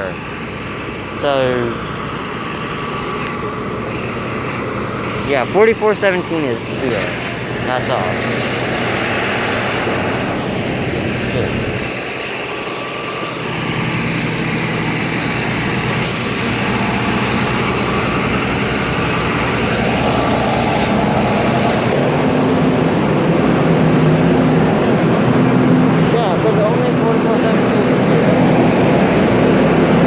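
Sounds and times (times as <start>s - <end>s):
bus engine running: 0.0s - 30.0s.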